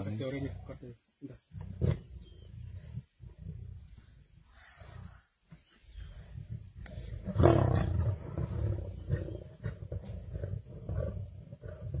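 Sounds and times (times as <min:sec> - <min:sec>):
lion growling: 0:01.4 - 0:12.0.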